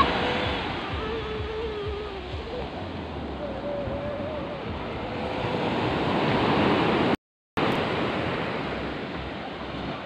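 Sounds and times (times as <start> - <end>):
waves breaking on beach: 0.0 - 10.0.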